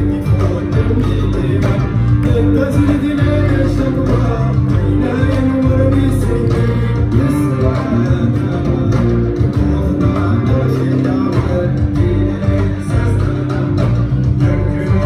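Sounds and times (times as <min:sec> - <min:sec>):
bass guitar: 0:00.0 - 0:15.0
electric guitar: 0:00.0 - 0:15.0
live blues band playing: 0:00.0 - 0:15.0
man singing: 0:00.0 - 0:15.0.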